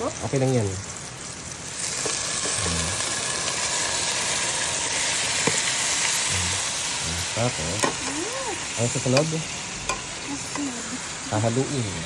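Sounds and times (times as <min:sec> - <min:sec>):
hot oil sizzling in a pan: 0:00.0 - 0:12.0.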